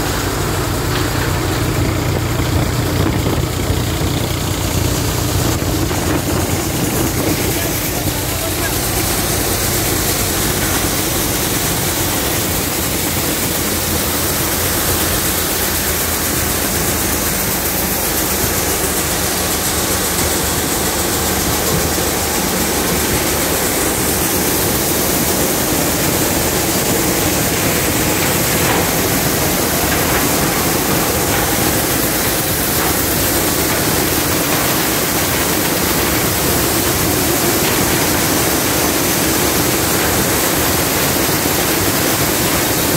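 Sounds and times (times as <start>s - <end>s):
grain pouring out of chute: 0.0s - 42.9s
thresher running: 0.0s - 42.9s.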